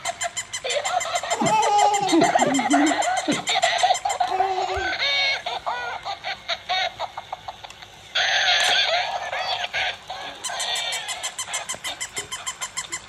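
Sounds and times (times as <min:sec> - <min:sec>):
electronic toy barks and meows: 0:00.3 - 0:06.9, 0:08.2 - 0:13.0.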